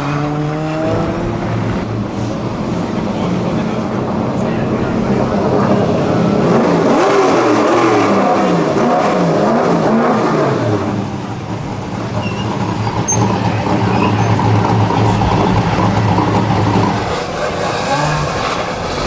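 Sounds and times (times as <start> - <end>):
racing car engines revving: 0.0 - 19.0.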